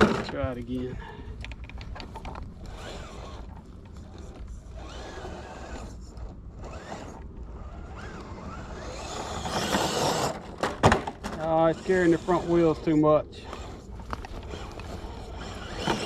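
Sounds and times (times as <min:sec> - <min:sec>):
tyres scraping on rock: 0:01.9 - 0:16.0
electric motor whining in pulses: 0:02.6 - 0:16.0.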